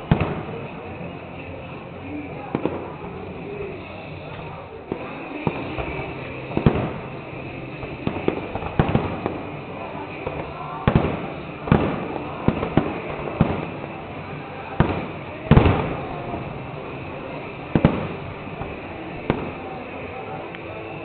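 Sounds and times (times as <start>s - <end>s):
fireworks bangs: 0.0s - 21.0s.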